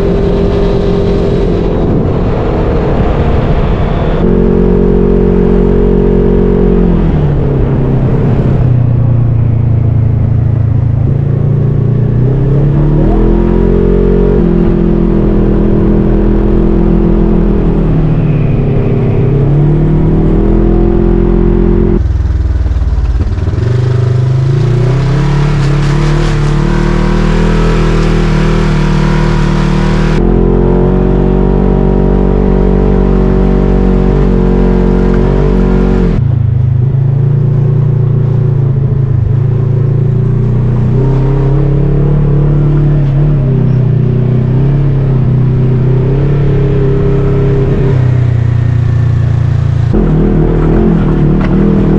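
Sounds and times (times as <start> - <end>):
off-road vehicle engine revving: 0.0 - 2.1, 4.2 - 9.2, 10.0 - 22.5, 23.2 - 36.2, 37.2 - 51.9.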